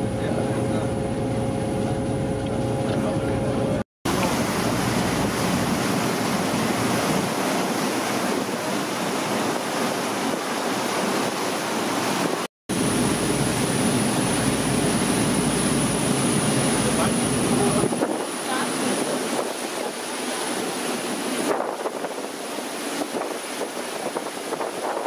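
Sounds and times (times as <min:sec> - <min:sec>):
low boat hum: 0:00.0 - 0:25.0
water rushing along boat hull: 0:00.0 - 0:25.0
wind on microphone: 0:00.0 - 0:25.0.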